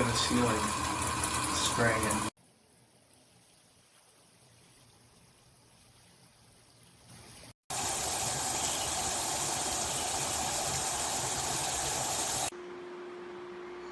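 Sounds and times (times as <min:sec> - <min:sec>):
shower spraying water: 0:00.0 - 0:12.5.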